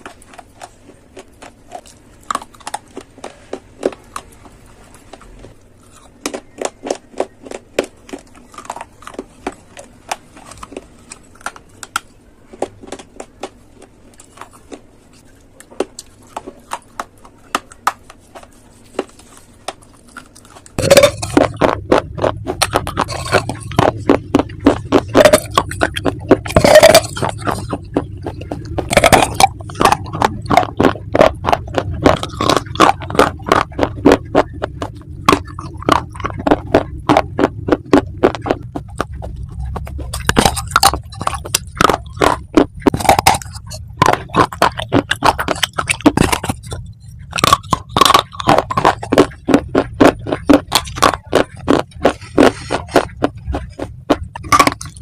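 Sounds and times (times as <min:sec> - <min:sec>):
crunching of dry clay being chewed: 0:00.0 - 0:55.0.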